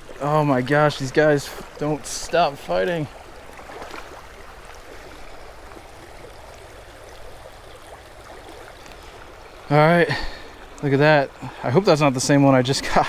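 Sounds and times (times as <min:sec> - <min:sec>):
creek water rushing over rapids: 0:00.0 - 0:13.0.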